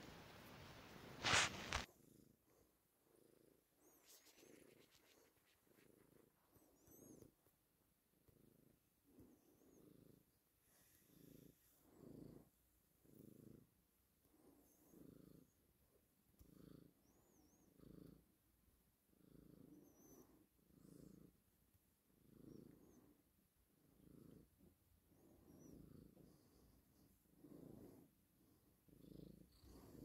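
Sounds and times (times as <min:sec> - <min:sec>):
kitten purring faintly: 0:00.0 - 0:30.0.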